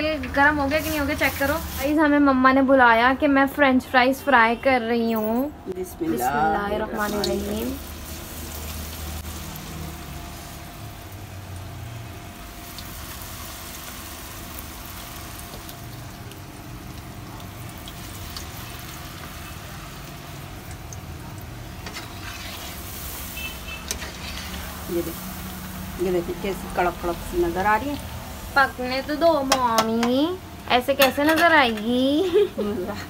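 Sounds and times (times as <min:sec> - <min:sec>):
fries sizzling in hot oil: 0:00.0 - 0:03.1, 0:06.4 - 0:33.0.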